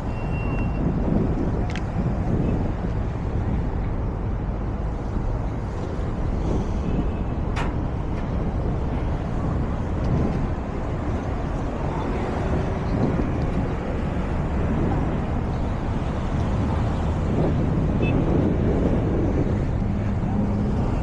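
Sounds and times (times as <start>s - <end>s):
traffic noise: 0.0s - 21.0s
wind buffeting microphone: 0.0s - 21.0s.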